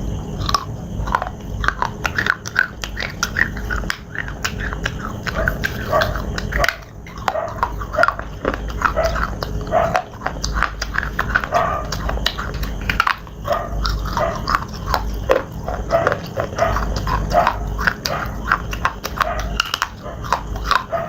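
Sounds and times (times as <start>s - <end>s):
crunching and chewing slate: 0.0s - 21.0s
wet mouth sounds: 0.4s - 21.0s.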